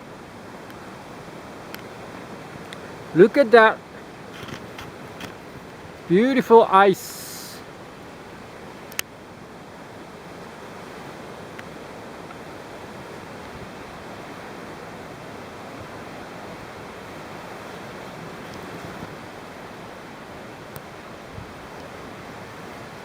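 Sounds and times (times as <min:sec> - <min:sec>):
river water rushing under ice: 0:00.0 - 0:23.0.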